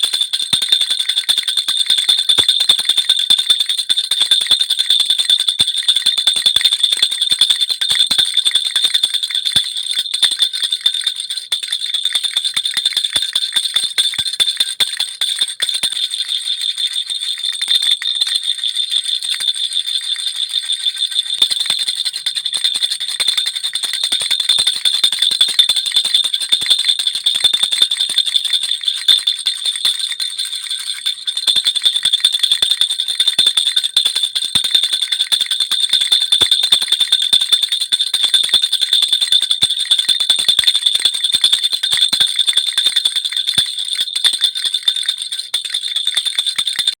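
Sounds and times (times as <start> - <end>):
baby rattle bells jingling: 0.0 - 47.0.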